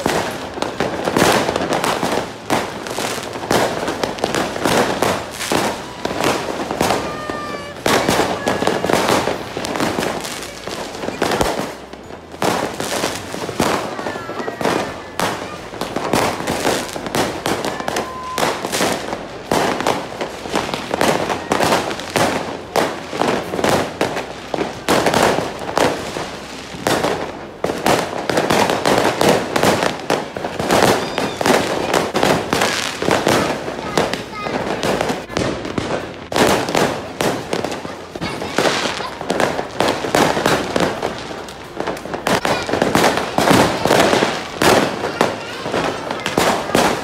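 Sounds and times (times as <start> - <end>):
fireworks and firecrackers banging: 0.0 - 47.0.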